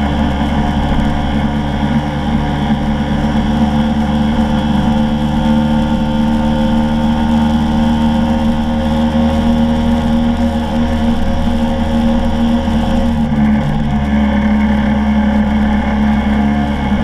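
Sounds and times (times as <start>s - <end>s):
road noise: 0.0s - 17.0s
scooter engine running: 0.0s - 17.0s.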